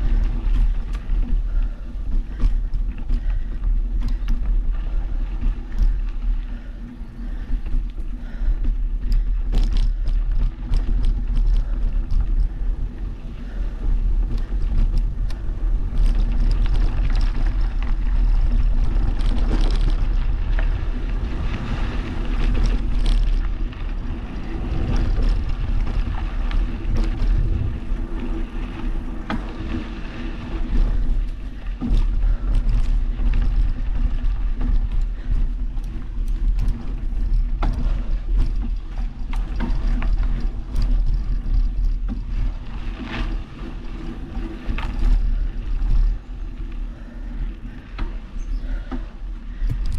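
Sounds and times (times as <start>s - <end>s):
bike clicks and rattles: 0.0s - 49.9s
bike tyres rolling on dirt: 0.0s - 49.9s
wind buffeting microphone: 0.0s - 49.9s.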